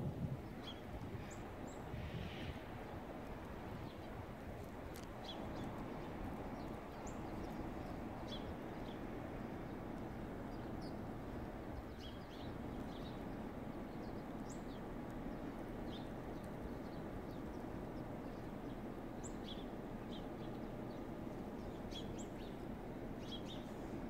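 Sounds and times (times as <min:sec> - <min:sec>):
low outdoor rumble: 0:00.0 - 0:24.0
small birds chirping: 0:00.4 - 0:24.0.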